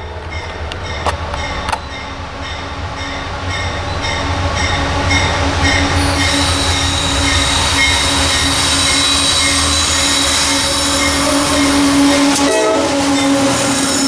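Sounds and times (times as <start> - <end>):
diesel locomotive rumble: 0.0 - 14.0
train rushing noise: 0.0 - 14.0.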